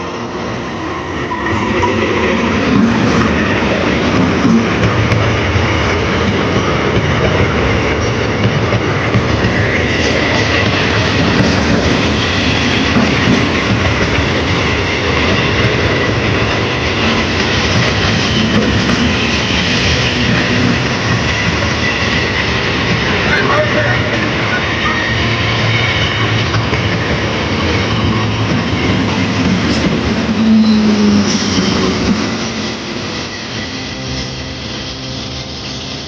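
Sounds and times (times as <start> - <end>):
train wheels clattering on rails: 1.4 - 34.1.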